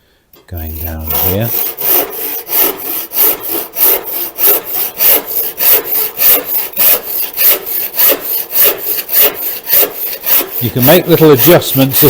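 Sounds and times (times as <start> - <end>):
handsaw cutting timber: 0.6 - 12.0.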